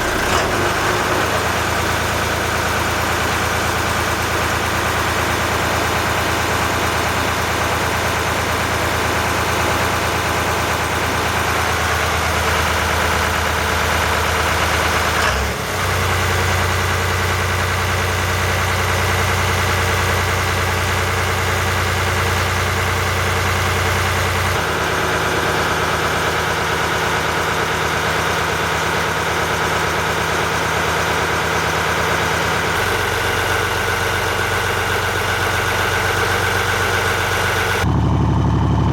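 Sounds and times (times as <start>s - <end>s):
marine diesel engine running: 0.0s - 38.9s.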